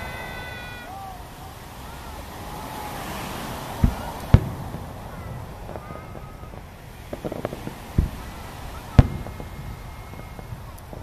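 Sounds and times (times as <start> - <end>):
faint voices: 0.0 - 11.0
firework bursts booming: 0.0 - 11.0.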